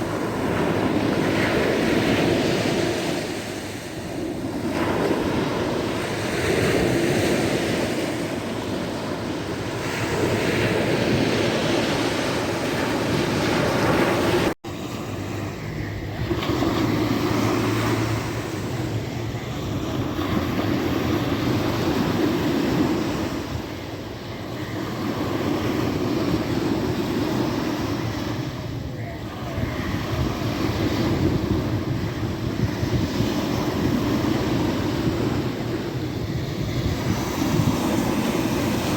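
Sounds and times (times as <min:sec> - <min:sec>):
sea waves washing on shore: 0:00.0 - 0:38.9.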